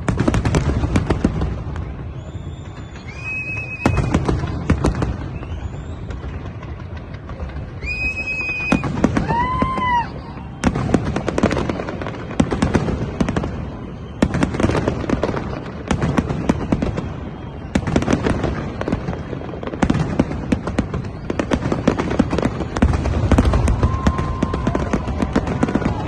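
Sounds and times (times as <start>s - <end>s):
fireworks bangs and crackles: 0.0s - 26.0s
whistling firework tones: 0.0s - 26.0s.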